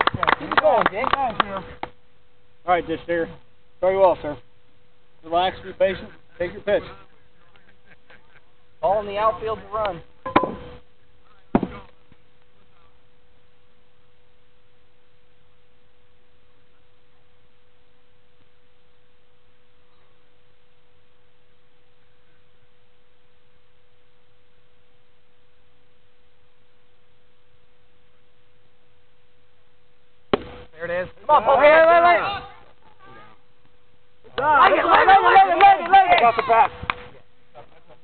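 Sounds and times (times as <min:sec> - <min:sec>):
faint hiss: 0:00.0 - 0:31.4
steady pure tone: 0:00.1 - 0:38.0.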